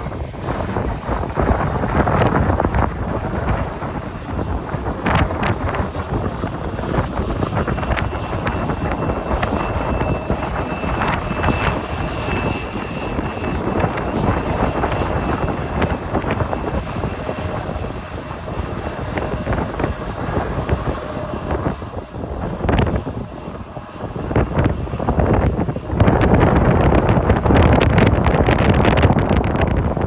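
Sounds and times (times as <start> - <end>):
faint engine whine: 0.0 - 30.0
jet engines roaring: 0.0 - 30.0
wind buffeting microphone: 0.0 - 30.0.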